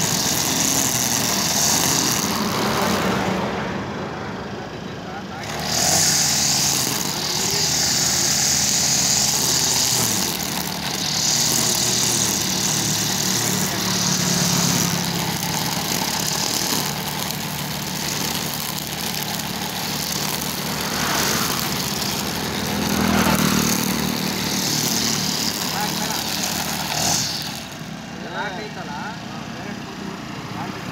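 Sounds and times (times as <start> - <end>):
cutter head cutting grass: 0.0 - 3.6, 5.2 - 29.8
brush cutter engine whining: 0.0 - 4.0, 4.7 - 30.9.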